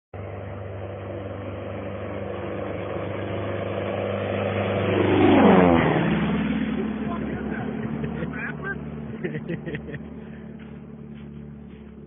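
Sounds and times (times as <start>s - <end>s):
small plane engine flyby: 0.2s - 12.0s.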